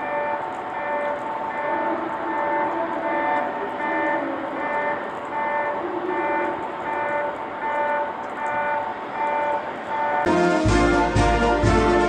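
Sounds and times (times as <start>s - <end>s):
train running over points: 0.0s - 12.0s.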